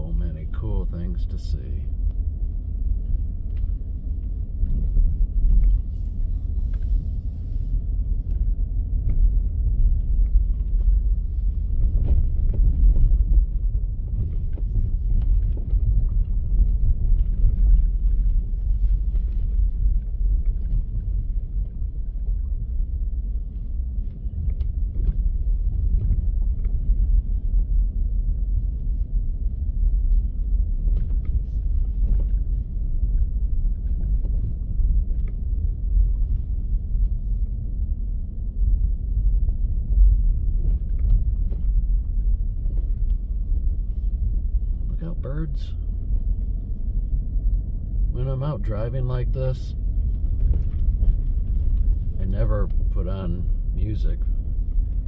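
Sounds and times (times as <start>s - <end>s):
vehicle rumbling on dirt road: 0.0s - 55.0s.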